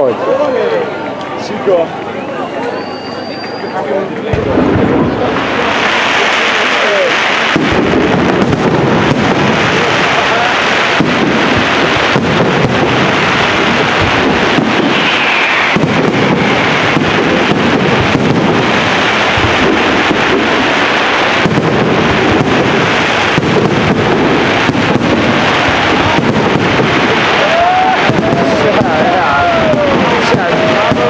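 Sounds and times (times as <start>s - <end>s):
firework bangs and crackles: 2.7s - 31.0s.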